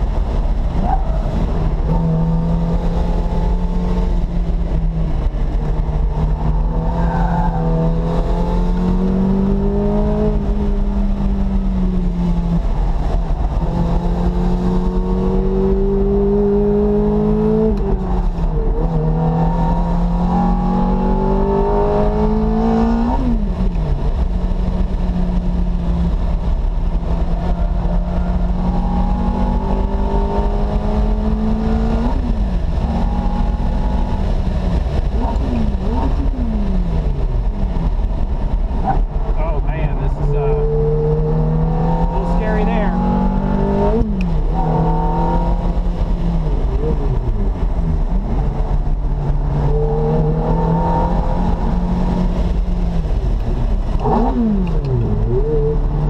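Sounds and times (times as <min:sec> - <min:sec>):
car engine revving with upshifts: 0:00.0 - 0:56.0
low road and wind rumble: 0:00.0 - 0:56.0.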